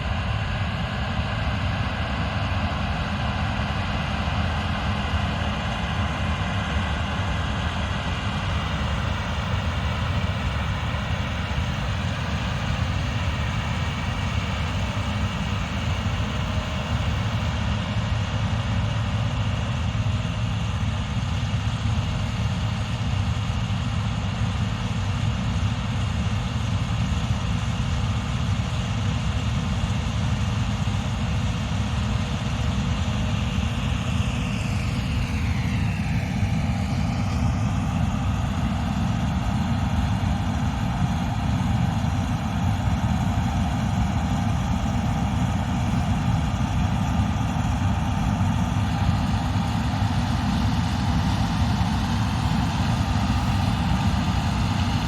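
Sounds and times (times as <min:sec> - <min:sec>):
combine harvester engine drone: 0:00.0 - 0:55.0
high machinery whine: 0:00.0 - 0:55.0.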